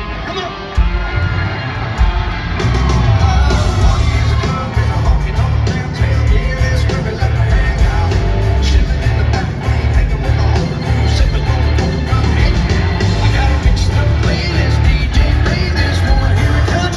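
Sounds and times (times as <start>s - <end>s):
crowd yelling: 0.0s - 16.9s
live country rock band: 0.0s - 16.9s
heavy pulsing bass: 1.2s - 16.9s
person singing: 2.9s - 16.9s.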